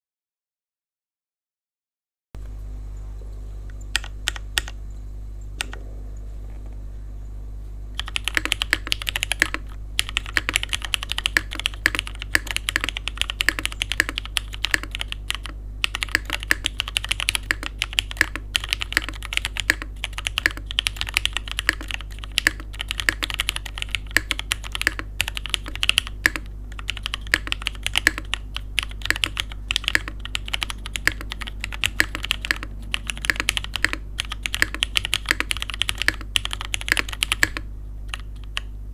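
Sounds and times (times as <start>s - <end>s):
low steady hum: 2.4s - 38.9s
mechanical keyboard typing: 3.9s - 4.8s, 8.0s - 38.7s.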